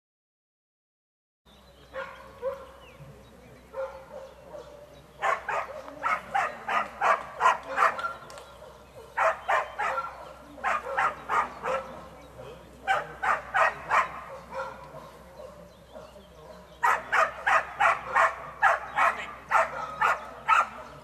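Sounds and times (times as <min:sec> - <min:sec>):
dog barking: 0:01.9 - 0:02.8, 0:03.7 - 0:12.1, 0:12.8 - 0:21.0.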